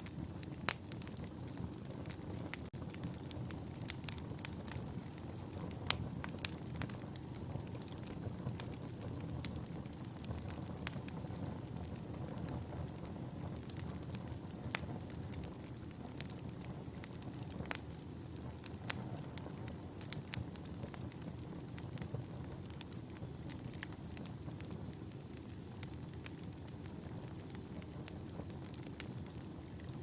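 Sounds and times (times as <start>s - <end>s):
fire crackles and snaps: 0.0s - 30.0s
wood fire rumbling: 0.0s - 30.0s.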